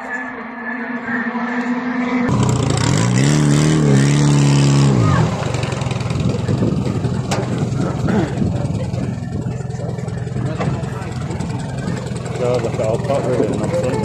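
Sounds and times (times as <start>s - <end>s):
outdoor background noise: 0.0s - 14.0s
racing car engine: 0.0s - 14.0s.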